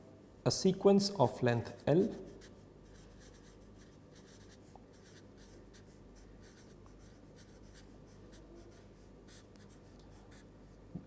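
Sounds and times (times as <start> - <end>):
marker pen scratching on paper: 1.6 - 10.8.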